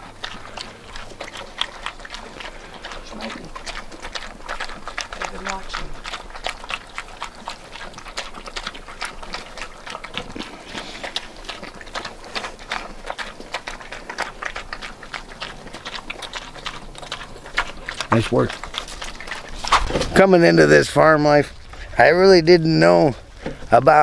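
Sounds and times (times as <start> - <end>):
pigs crackling and clicking: 0.0 - 24.0.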